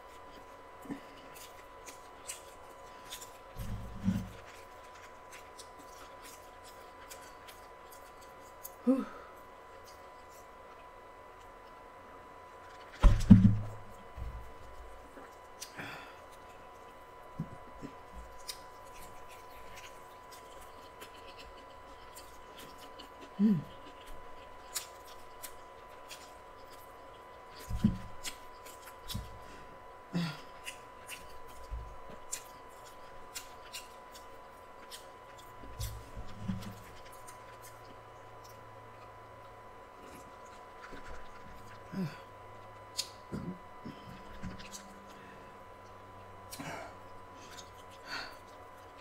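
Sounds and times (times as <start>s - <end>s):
crunchy chewing: 0.0s - 49.0s.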